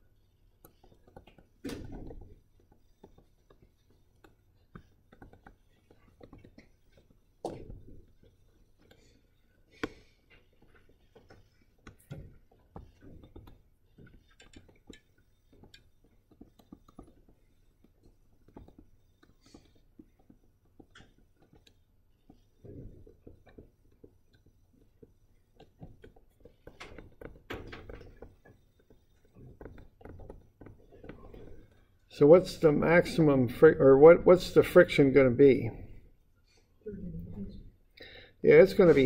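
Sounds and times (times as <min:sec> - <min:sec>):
small clicks taps and rustles: 0:00.0 - 0:33.2.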